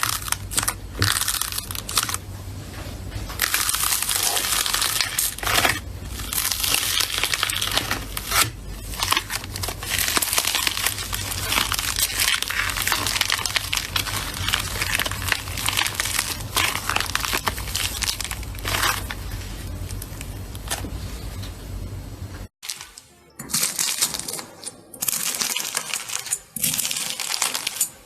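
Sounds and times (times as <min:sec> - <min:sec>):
slime crackling and popping: 0:00.0 - 0:02.2, 0:03.3 - 0:20.8, 0:22.6 - 0:28.0.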